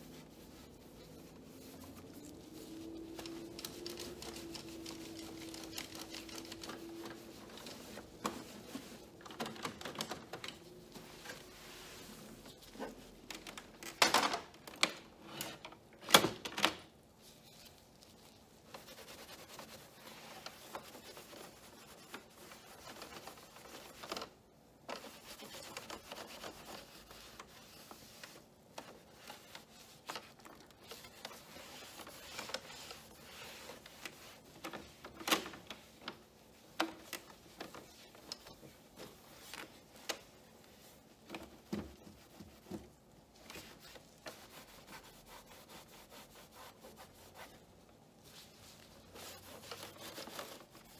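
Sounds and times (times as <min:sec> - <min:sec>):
cloth wiping plastic and glass: 0:00.0 - 0:14.0, 0:17.0 - 0:50.9.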